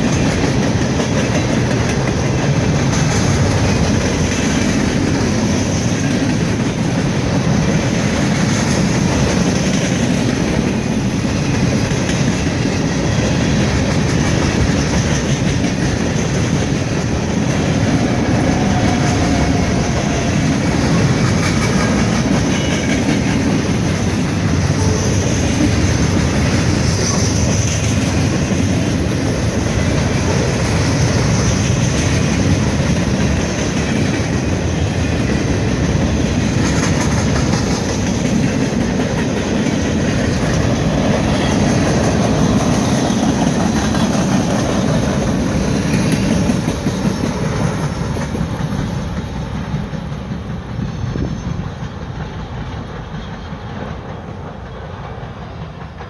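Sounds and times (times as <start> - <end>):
freight train rumbling: 0.0 - 56.0
wheels clattering over rail joints: 0.0 - 56.0.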